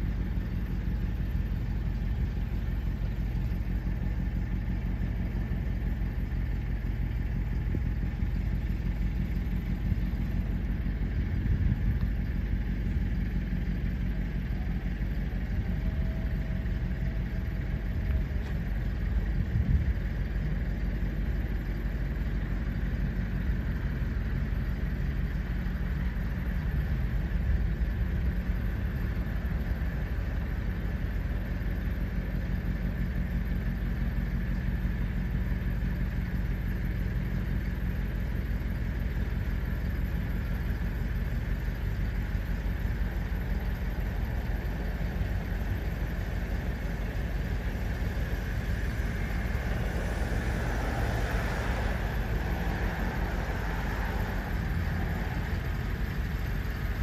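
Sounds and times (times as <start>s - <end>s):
vehicle interior rumble and hum: 0.0s - 57.0s.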